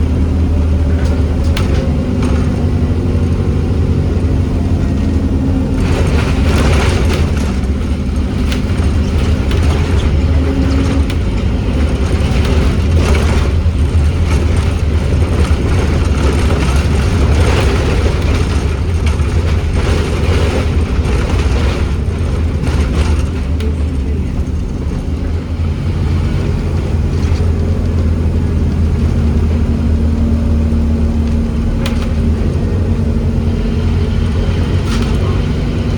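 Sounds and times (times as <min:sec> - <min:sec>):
bus diesel engine rumbling: 0:00.0 - 0:35.9
bodywork knocks and rattles: 0:05.2 - 0:35.9.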